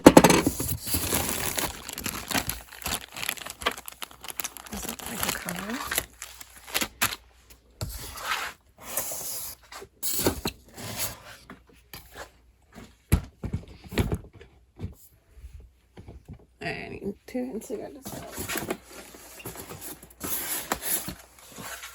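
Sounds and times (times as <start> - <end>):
plastic and cardboard rustling: 0.0 - 16.5, 18.0 - 21.9.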